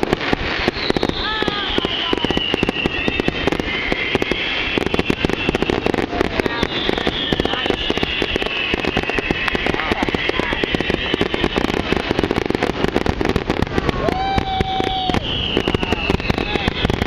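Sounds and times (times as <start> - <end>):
fireworks bursting: 0.0 - 17.0
fireworks whistling: 0.0 - 17.0.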